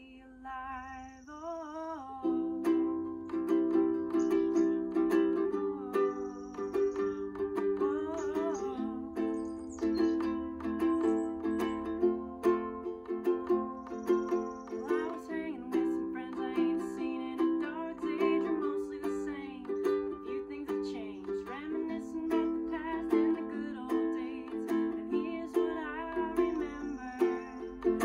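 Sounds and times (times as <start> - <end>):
ukulele strumming chords: 2.2 - 28.0.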